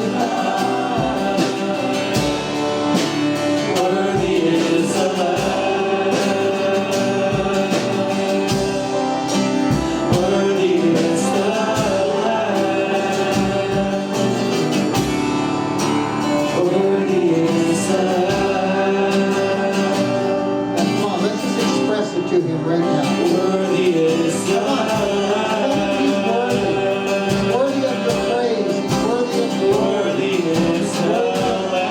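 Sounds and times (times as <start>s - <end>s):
guitar-led accompaniment: 0.0s - 31.9s
voices singing worship song: 0.0s - 31.9s.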